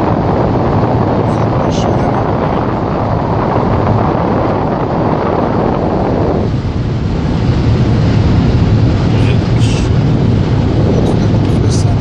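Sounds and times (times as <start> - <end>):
car engine drone: 0.0 - 12.0
wind and road rush: 0.0 - 12.0.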